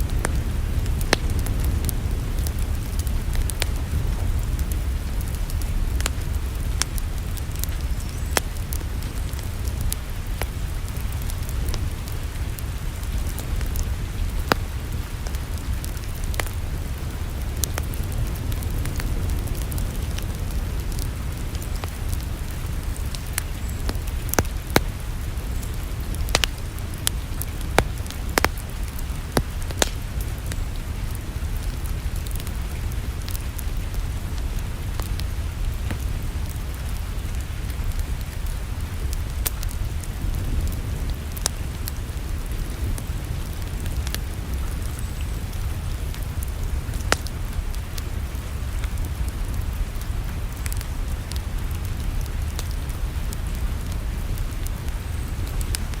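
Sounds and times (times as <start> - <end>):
low rumble of flames: 0.0 - 56.0
wood fire popping: 0.0 - 56.0.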